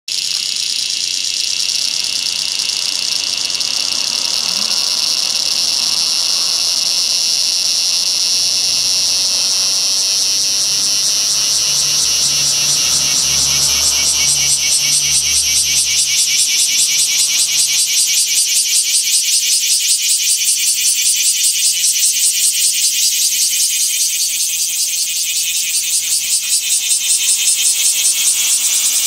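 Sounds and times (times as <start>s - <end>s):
cicadas buzzing: 0.1s - 29.0s.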